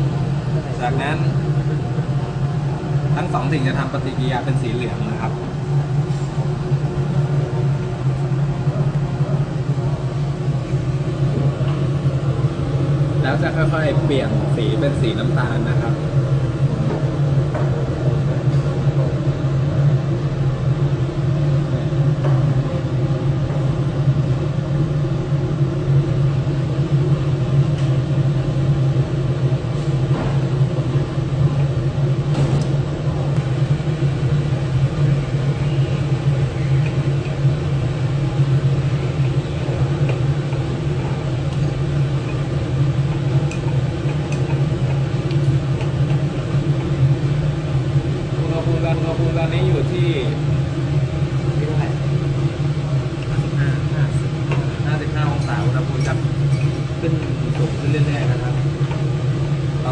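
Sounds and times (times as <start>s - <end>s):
fume hood fan humming: 0.0s - 59.9s.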